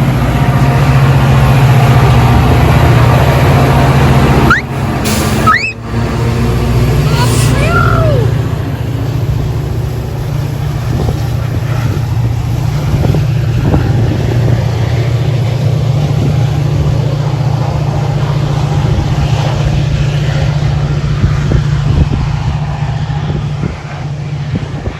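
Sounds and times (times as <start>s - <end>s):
diesel locomotive engine drone: 0.0s - 24.9s.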